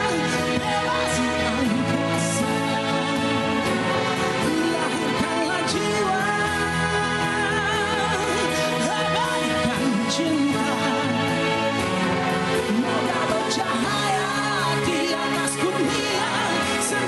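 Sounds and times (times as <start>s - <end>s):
band playing a song: 0.0s - 17.0s.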